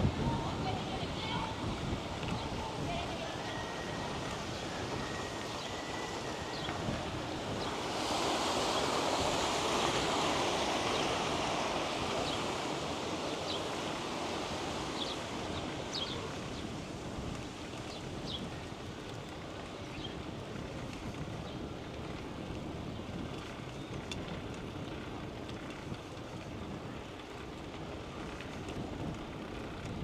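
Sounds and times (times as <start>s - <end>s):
wind and bicycle rolling noise: 0.0s - 30.0s.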